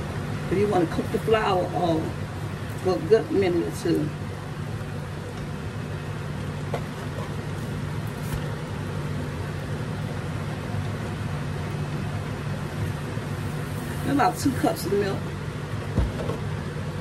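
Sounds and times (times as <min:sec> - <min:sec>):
exhaust fan humming: 0:00.0 - 0:17.0.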